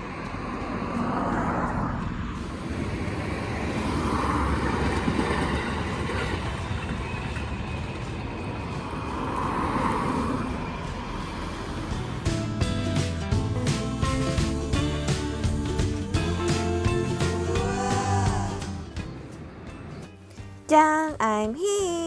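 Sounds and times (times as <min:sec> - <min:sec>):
vehicles passing: 0:00.0 - 0:21.4
steady traffic rumble: 0:00.0 - 0:21.6.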